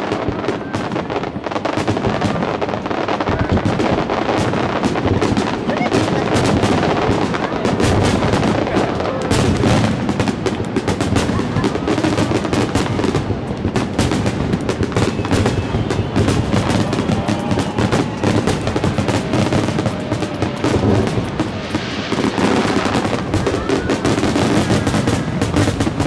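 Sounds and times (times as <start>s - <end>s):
firework shells bursting: 3.5s - 26.0s.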